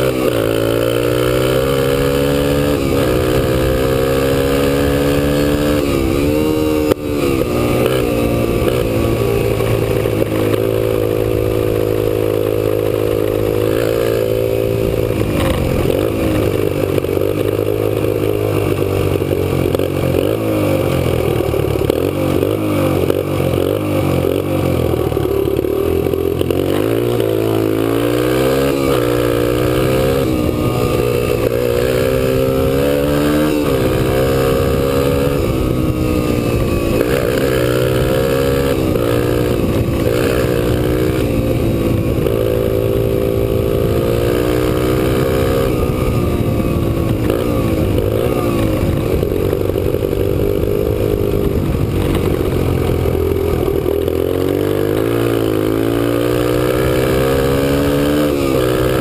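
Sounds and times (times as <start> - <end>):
dirt bike engine running hard: 0.0 - 59.0.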